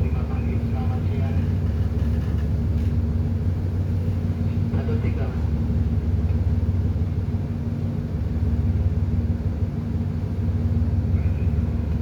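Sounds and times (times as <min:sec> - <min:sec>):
ship engine low drone: 0:00.0 - 0:12.0.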